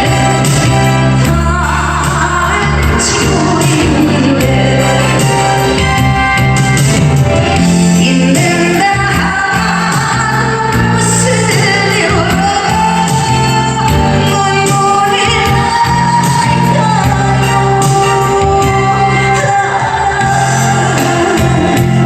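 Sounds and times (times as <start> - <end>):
woman singing a ballad: 0.0 - 6.4, 7.6 - 22.0
instrumental accompaniment: 0.0 - 22.0.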